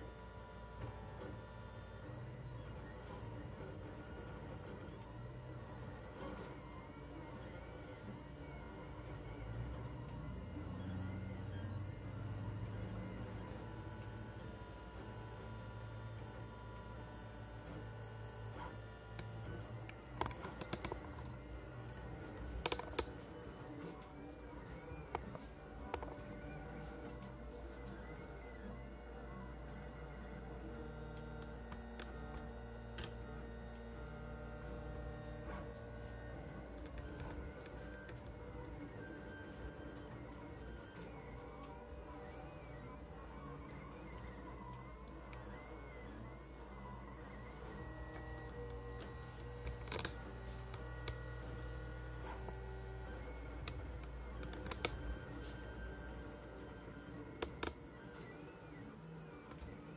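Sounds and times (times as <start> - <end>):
stepper motors whining: 0.0 - 59.9.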